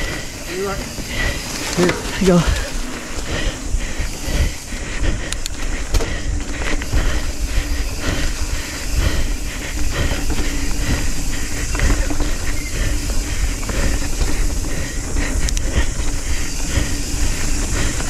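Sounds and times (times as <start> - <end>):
bike rattling and clicking: 0.0 - 18.0
wind and tyre noise: 0.0 - 18.0.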